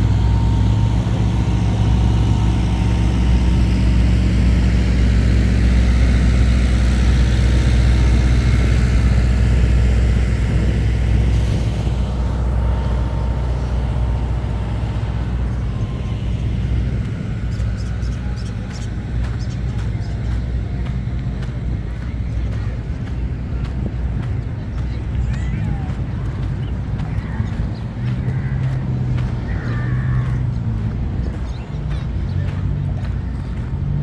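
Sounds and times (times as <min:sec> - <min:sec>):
large engine rumbling: 0:00.0 - 0:34.0
street noise: 0:00.0 - 0:34.0.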